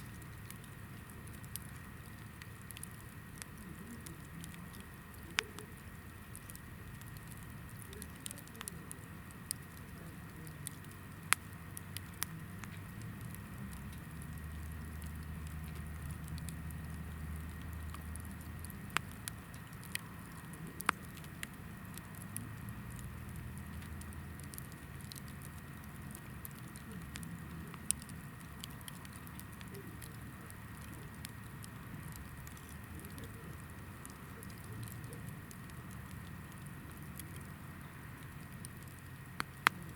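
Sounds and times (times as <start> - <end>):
campfire crackling and popping: 0.0 - 39.9
low flame rustle: 0.0 - 39.9.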